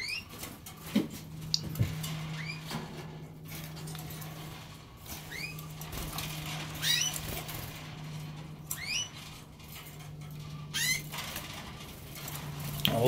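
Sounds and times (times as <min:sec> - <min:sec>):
canaries chirping: 0:00.0 - 0:13.0
low hum: 0:00.0 - 0:13.0.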